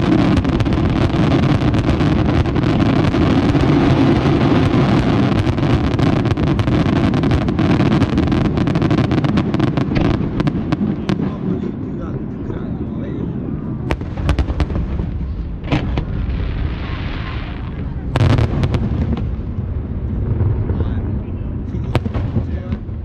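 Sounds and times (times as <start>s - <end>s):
fireworks cracking: 0.0s - 23.0s
fireworks rumble: 0.0s - 23.0s.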